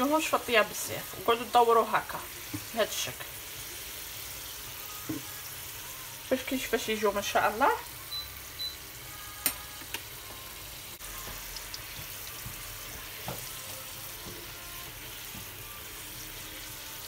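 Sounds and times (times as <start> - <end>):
dough sizzling in hot oil: 0.0 - 17.0.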